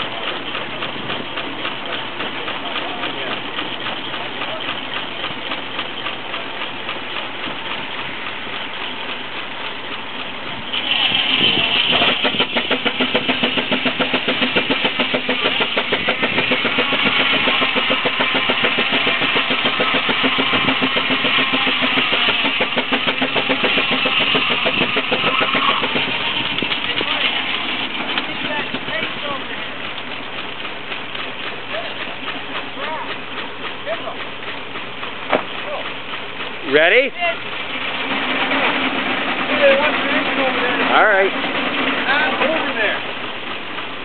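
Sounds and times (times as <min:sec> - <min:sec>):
steam traction engine: 0:00.0 - 0:44.0.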